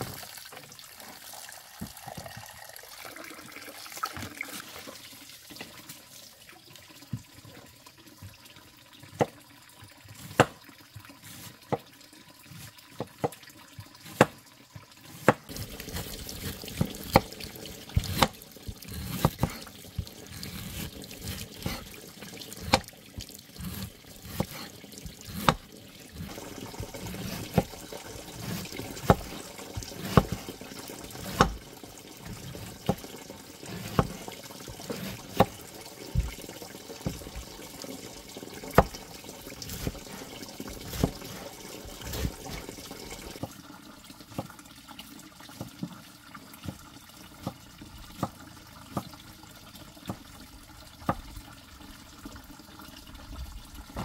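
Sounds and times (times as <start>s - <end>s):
water running: 0.0s - 54.0s.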